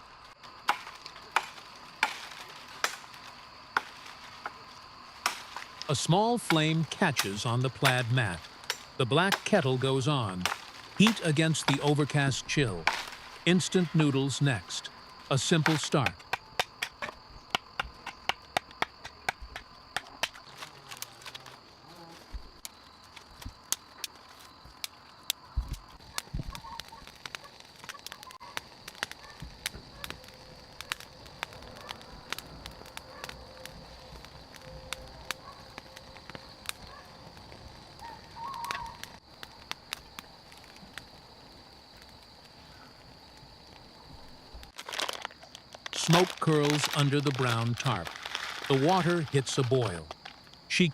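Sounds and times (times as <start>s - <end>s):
high insect drone: 0.0s - 50.7s
wood fire crackling and popping: 0.0s - 50.9s.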